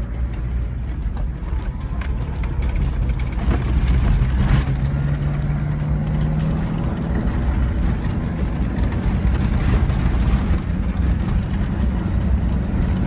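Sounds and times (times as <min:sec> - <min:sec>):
vehicle driving on dirt road: 0:00.0 - 0:13.0.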